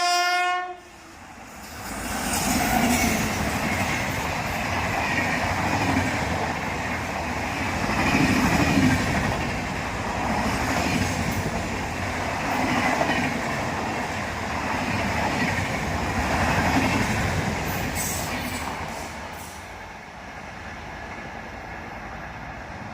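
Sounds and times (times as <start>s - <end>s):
train wheels rumbling on rails: 0.8s - 22.9s.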